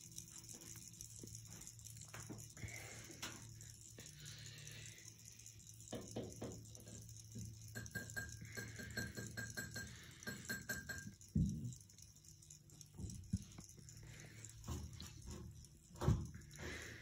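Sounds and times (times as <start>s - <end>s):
fan clicking and rattling: 0.0s - 17.0s
fan motor hum: 0.0s - 17.0s.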